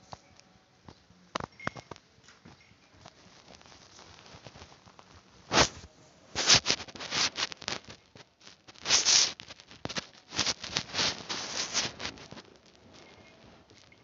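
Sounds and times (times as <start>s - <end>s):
cat rustling and scratching: 0.0s - 14.0s.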